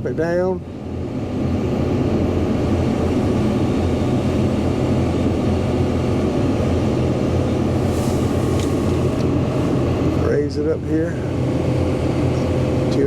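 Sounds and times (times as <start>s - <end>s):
excavator engine running under load: 0.7s - 13.0s.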